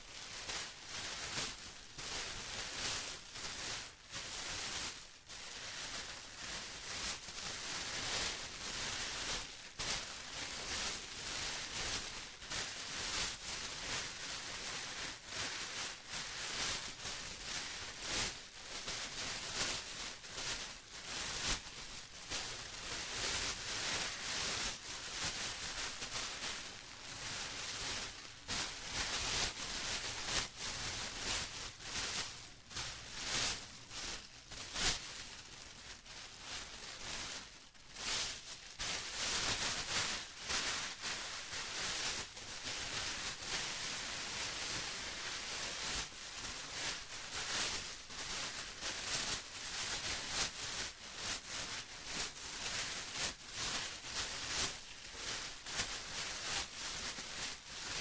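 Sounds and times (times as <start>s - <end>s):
plastic crinkling: 0.0s - 58.0s.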